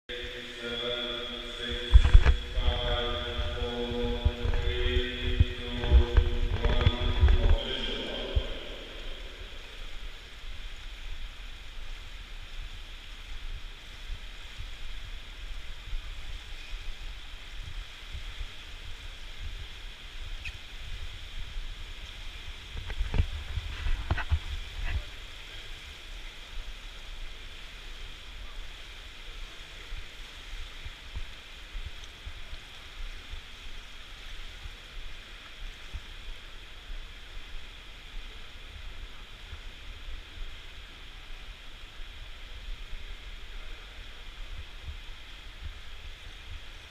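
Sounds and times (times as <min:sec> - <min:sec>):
swimming pool hall hiss and rumble: 0:00.1 - 0:46.9.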